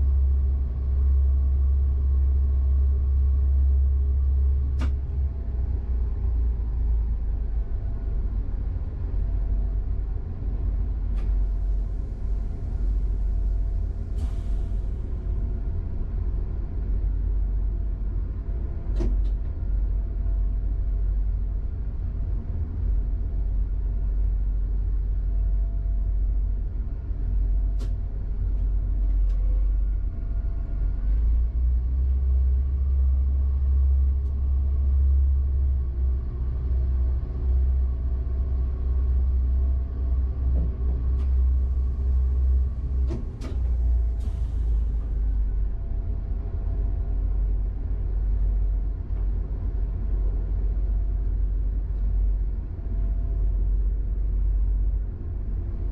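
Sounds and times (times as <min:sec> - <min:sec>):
train cab low rumble: 0:00.0 - 0:55.9.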